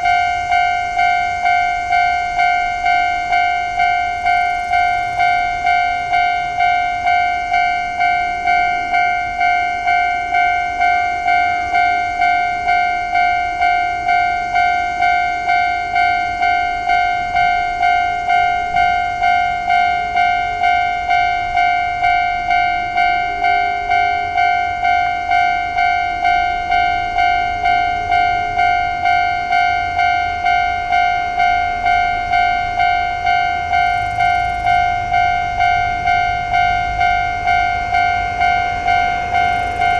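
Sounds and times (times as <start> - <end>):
level crossing alarm dings: 0.0 - 39.9.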